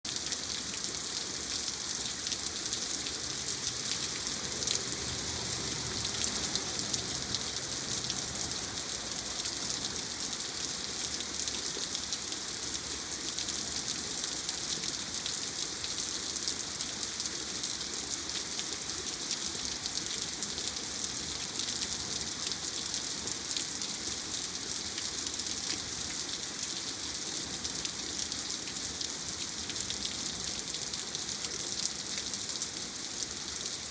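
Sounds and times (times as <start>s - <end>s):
heavy rain: 0.0s - 33.9s
raindrops pattering on surfaces: 0.1s - 33.9s.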